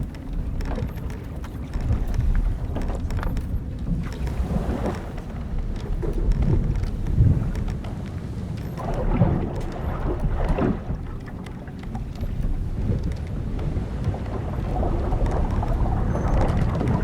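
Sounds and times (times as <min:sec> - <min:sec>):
wind and waves rumbling: 0:00.0 - 0:17.0
wooden hull and ropes creaking: 0:00.0 - 0:17.0.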